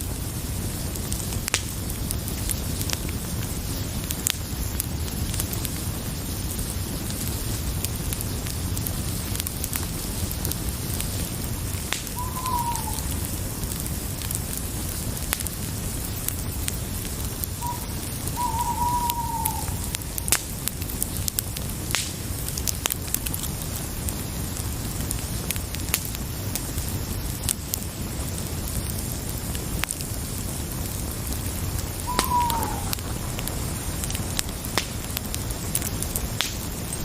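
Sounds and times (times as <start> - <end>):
fire crackling: 0.0 - 37.0.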